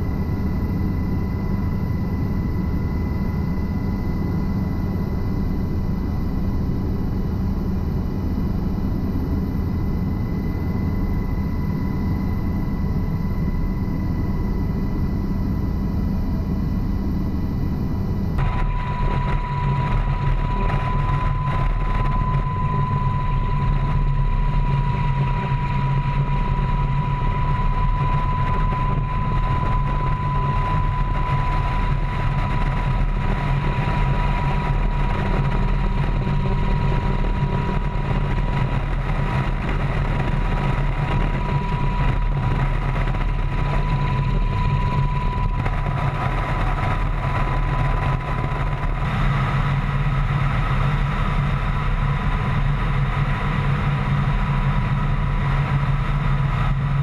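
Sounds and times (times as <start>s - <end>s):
helicopter engines and rotor: 0.0s - 57.0s.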